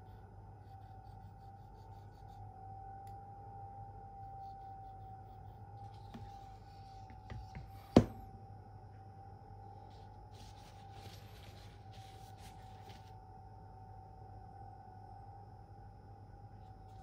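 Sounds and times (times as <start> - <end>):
faint steady tone: 0.0 - 17.0.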